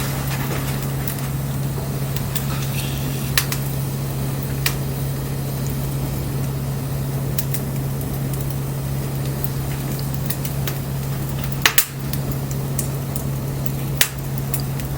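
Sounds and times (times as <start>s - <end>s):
steady low hum: 0.0s - 14.9s
wood fire crackling: 0.0s - 14.9s.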